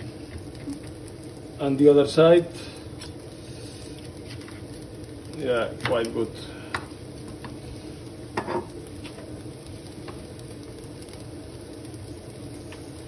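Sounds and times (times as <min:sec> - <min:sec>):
tofu sizzling in a frying pan: 0:00.0 - 0:13.0.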